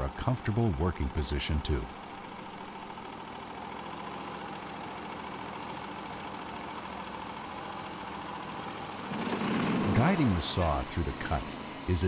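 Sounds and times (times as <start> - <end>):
sawmill engine under load: 0.0 - 12.0.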